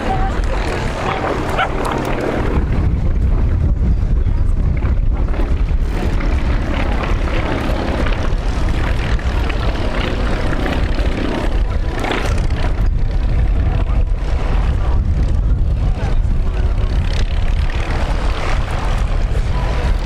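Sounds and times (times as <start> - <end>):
aircraft propeller engine drone: 0.0 - 20.0.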